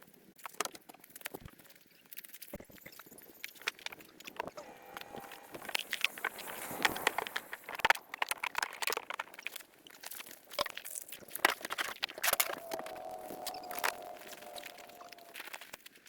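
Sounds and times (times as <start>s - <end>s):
crunching and crackling clicks: 0.0s - 16.0s.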